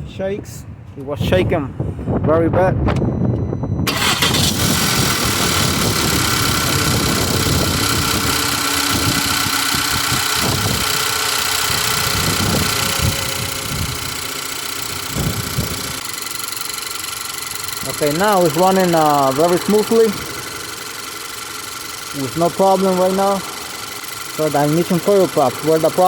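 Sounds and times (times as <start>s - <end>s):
car engine idling: 3.9s - 26.0s.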